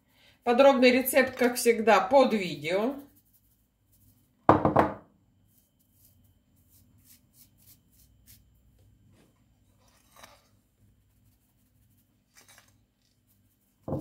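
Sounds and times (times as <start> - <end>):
flour sifting through strainer: 0.4 - 4.4, 5.5 - 8.6, 9.7 - 14.0.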